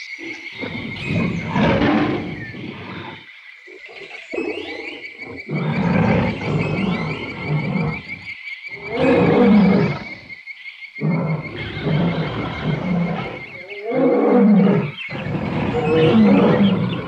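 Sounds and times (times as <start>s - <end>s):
big cats roaring and growling: 0.2s - 10.3s, 11.0s - 17.0s.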